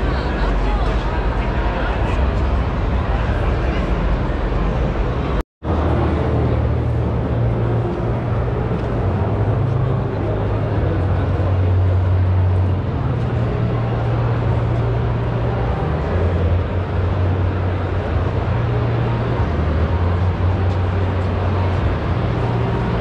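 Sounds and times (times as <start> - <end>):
indistinct crowd noise: 0.0 - 23.0
low hum stepping pitches: 0.0 - 23.0.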